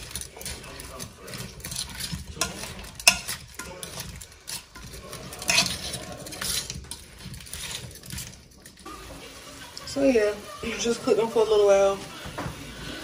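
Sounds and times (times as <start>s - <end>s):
plastic fork scraping pan: 0.0s - 13.0s.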